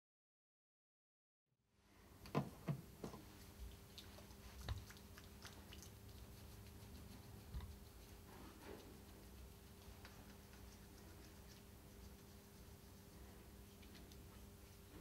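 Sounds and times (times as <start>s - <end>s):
faint steady hum: 1.6s - 15.0s.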